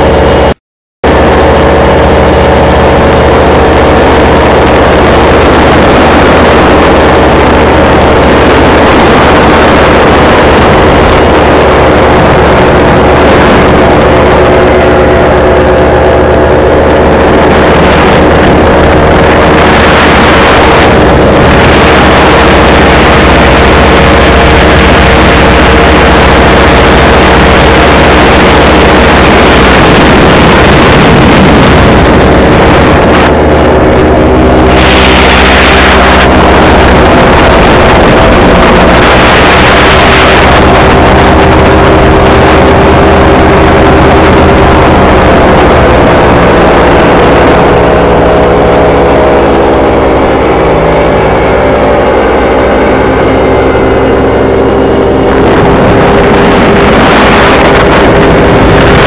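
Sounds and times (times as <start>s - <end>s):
paramotor engine droning: 0.0s - 59.0s.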